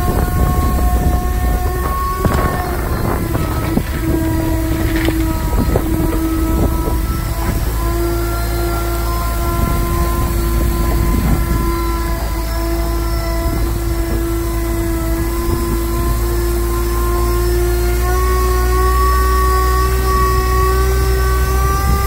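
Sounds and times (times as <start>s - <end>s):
truck engine and pump whine: 0.0s - 22.0s.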